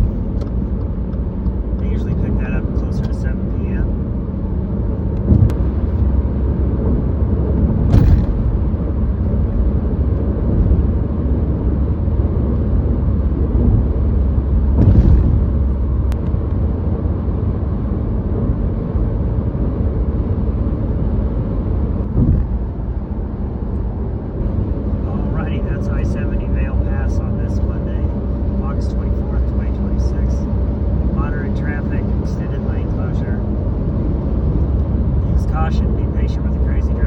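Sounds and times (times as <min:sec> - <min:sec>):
vehicle road noise on highway: 0:00.0 - 0:37.0.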